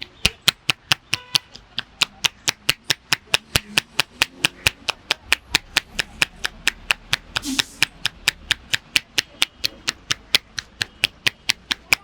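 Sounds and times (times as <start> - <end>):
hands slapping head: 0.0 - 12.0.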